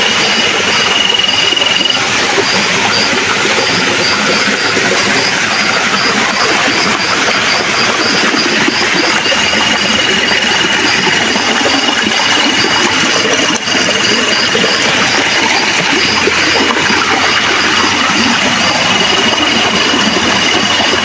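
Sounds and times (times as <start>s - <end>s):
insects trilling: 0.0s - 21.0s
stream running water: 0.0s - 21.0s
high chirp: 0.1s - 20.6s.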